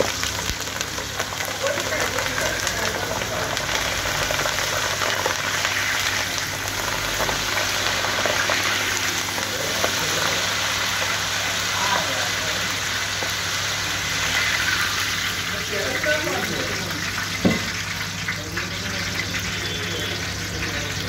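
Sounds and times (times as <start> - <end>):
chilies sizzling in hot oil: 0.0 - 21.0.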